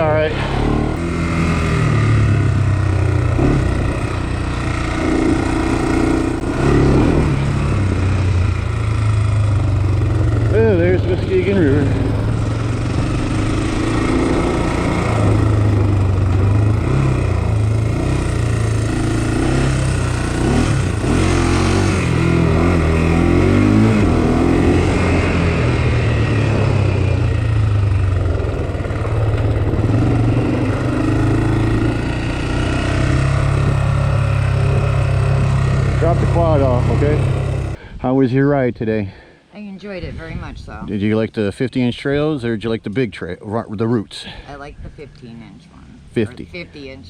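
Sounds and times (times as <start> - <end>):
atv engine revving: 0.0 - 37.9, 39.8 - 47.0.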